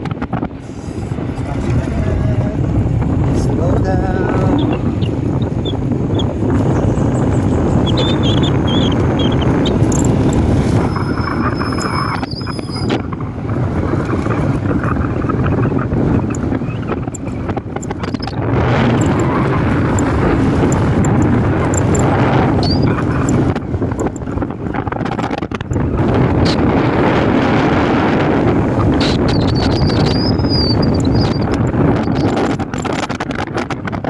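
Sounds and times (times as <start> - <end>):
wind buffeting microphone: 0.0 - 34.0
motorcycle engine running: 1.7 - 34.0.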